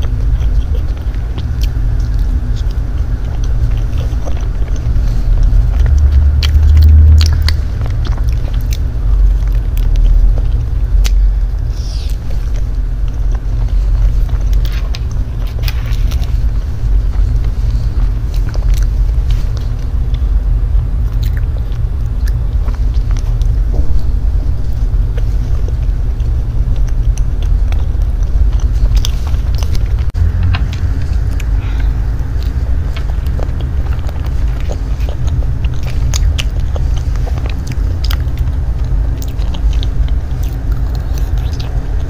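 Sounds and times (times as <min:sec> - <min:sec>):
soft chewing mouth sounds: 0:00.0 - 0:42.0
steady low rumble: 0:00.0 - 0:42.0.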